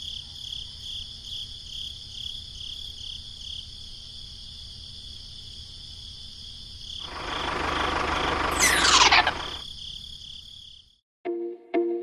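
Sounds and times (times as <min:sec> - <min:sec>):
high insect drone: 0:00.0 - 0:10.8
crickets chirping: 0:00.0 - 0:11.0.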